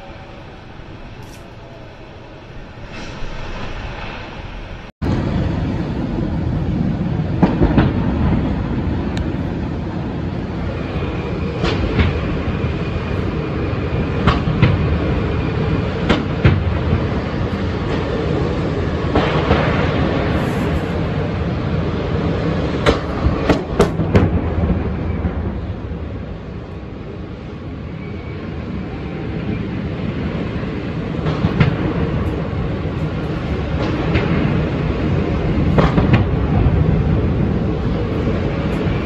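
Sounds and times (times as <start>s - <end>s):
fire roaring: 0.0s - 39.0s.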